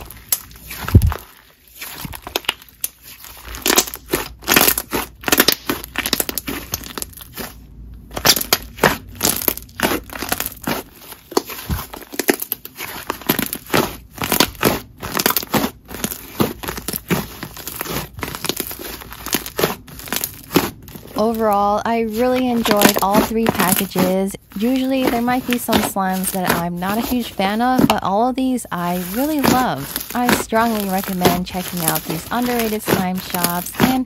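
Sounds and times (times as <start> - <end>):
slime crackling and popping: 0.0 - 28.0, 28.7 - 34.0.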